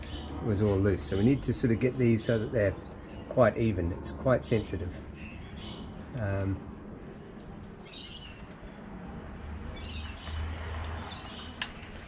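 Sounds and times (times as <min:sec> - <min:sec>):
small birds chirping: 0:00.0 - 0:08.9, 0:09.6 - 0:12.0.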